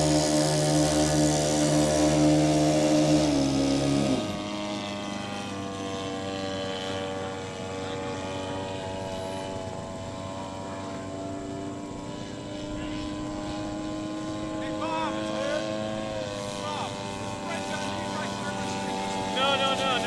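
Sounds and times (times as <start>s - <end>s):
model airplane engine flying past: 0.0s - 20.0s.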